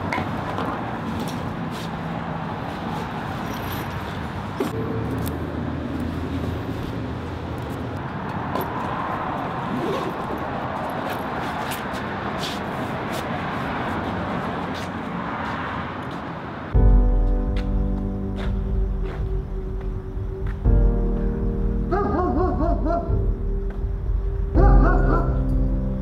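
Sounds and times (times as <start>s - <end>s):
traffic noise with low hum: 0.0s - 26.0s.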